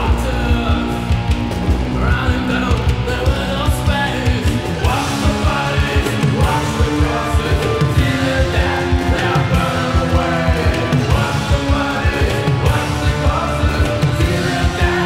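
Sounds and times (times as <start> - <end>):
bass: 0.0 - 15.0
fast drum beat: 0.0 - 15.0
rock singing: 0.0 - 15.0.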